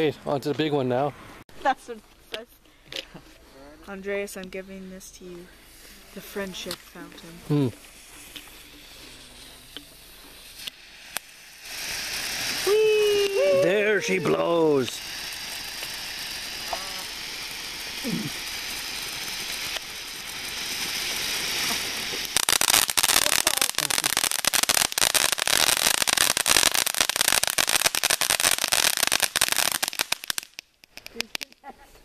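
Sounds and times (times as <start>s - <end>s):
firework fountain hissing: 1.6s - 31.8s
firework rapid crackling: 4.0s - 31.9s.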